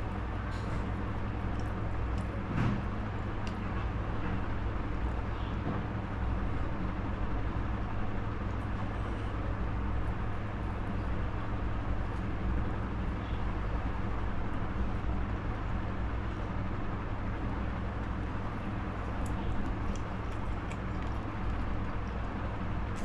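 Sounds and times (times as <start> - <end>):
low rumbling background noise: 0.0 - 23.0.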